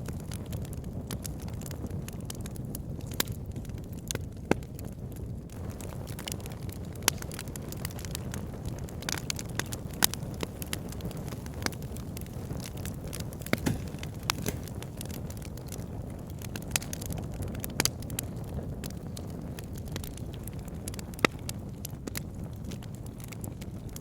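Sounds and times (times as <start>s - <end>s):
burning logs crackling and popping: 0.0s - 24.0s
flames rushing: 0.1s - 24.0s.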